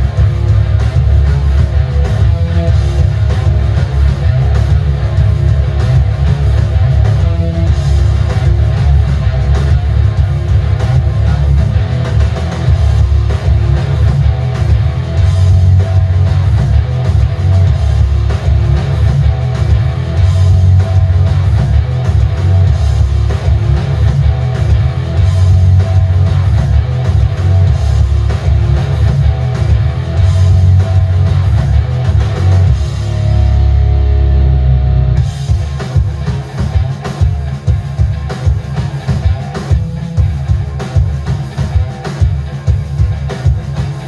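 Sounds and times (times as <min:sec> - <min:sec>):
guitar music with pulsing bass: 0:00.0 - 0:44.0.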